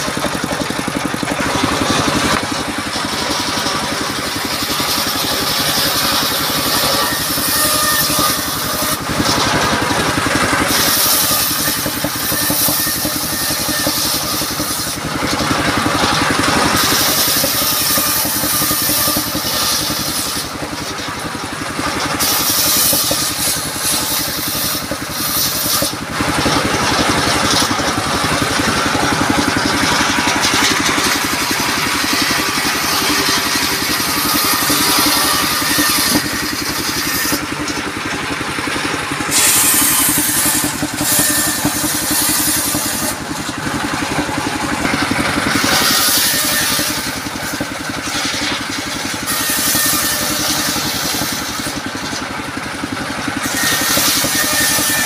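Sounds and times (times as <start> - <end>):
circular saw cutting wood: 0.0 - 55.0
diesel engine running: 0.0 - 55.0.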